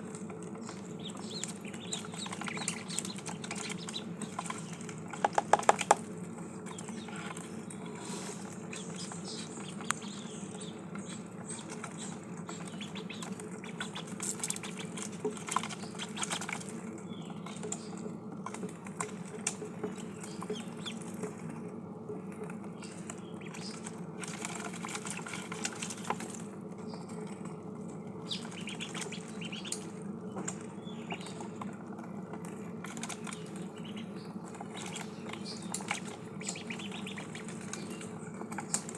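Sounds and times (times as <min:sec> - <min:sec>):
ducklings pecking food: 0:00.0 - 0:38.9
steady low hum: 0:00.0 - 0:38.9.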